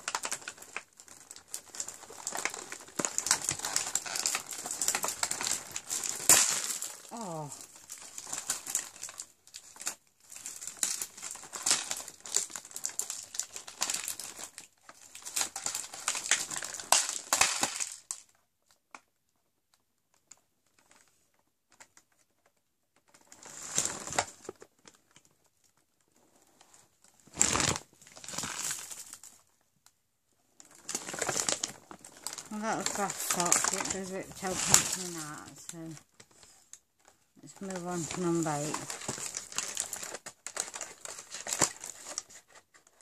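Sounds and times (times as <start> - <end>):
plastic packaging crinkling: 0.0 - 19.0, 20.1 - 43.0.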